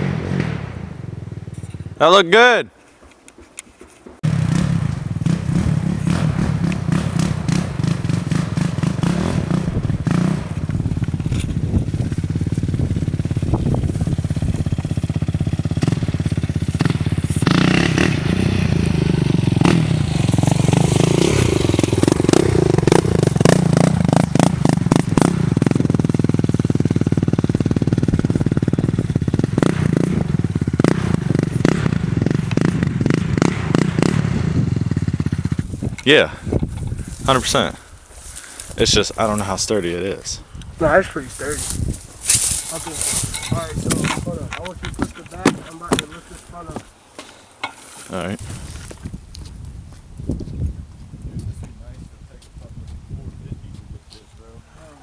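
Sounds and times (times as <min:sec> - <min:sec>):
atv engine running: 0:00.0 - 0:02.1, 0:04.2 - 0:47.0, 0:48.0 - 0:51.3.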